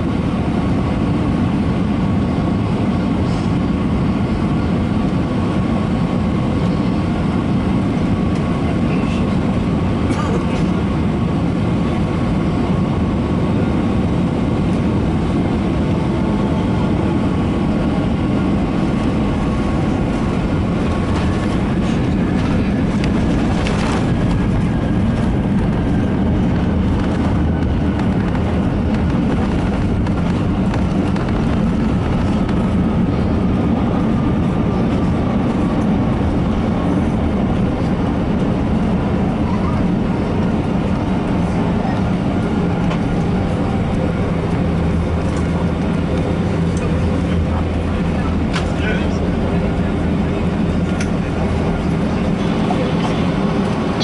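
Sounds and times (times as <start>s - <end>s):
aircraft engines and wheels rumbling: 0.0s - 54.0s.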